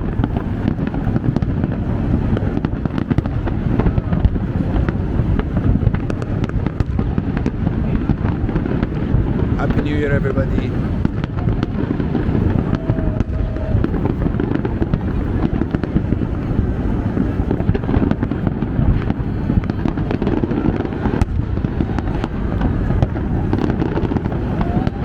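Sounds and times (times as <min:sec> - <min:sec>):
distant fireworks rumble: 0:00.0 - 0:25.0
sharp firework cracks: 0:00.0 - 0:25.0.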